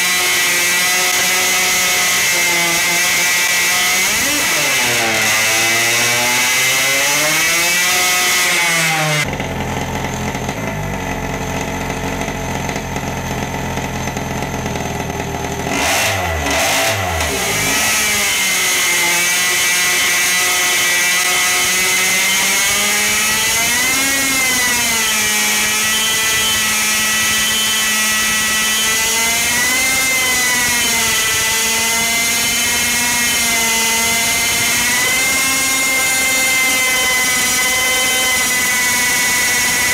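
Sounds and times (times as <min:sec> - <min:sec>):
two-stroke engine running hard: 0:00.0 - 0:39.9.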